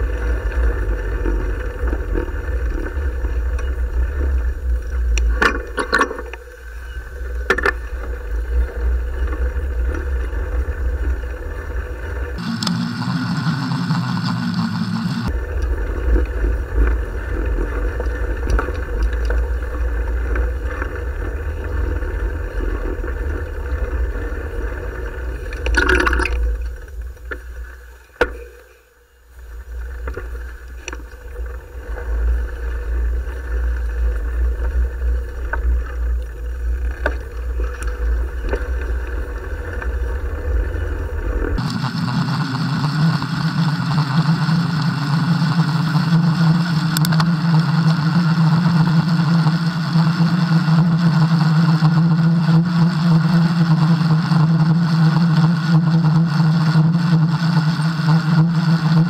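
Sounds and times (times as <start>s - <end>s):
wind and road rumble: 0.0s - 12.8s, 15.1s - 28.5s, 29.2s - 51.0s
steady droning hum: 0.0s - 59.0s.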